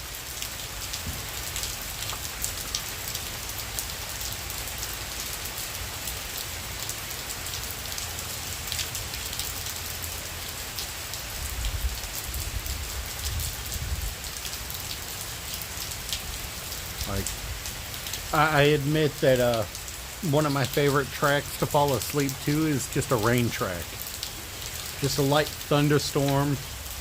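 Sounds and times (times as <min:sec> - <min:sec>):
heavy rain patter: 0:00.0 - 0:27.0.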